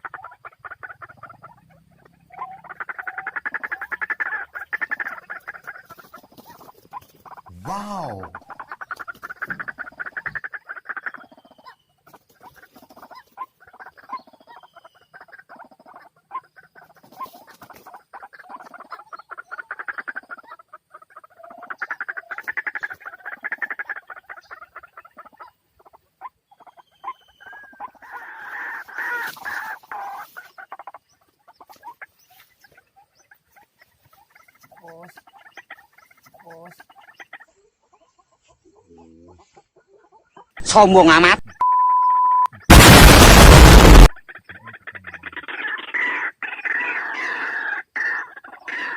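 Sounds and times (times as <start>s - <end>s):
waterhens calling: 0.0s - 38.5s, 44.3s - 48.9s.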